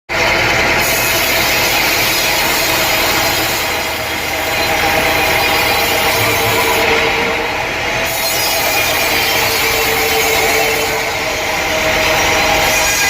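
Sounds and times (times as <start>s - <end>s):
motor running: 0.2s - 13.0s
saw grinding through log: 0.2s - 13.0s.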